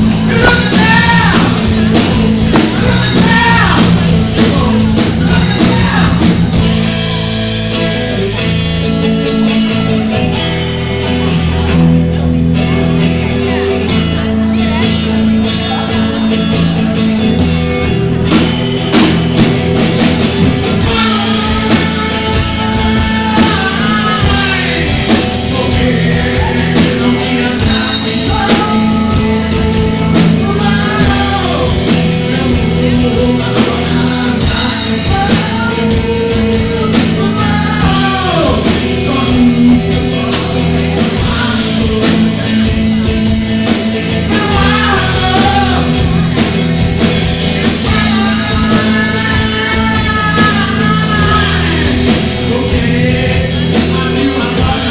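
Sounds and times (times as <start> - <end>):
bass guitar: 0.0 - 54.9
drum kit: 0.0 - 54.9
electric guitar lead melody: 0.0 - 54.9.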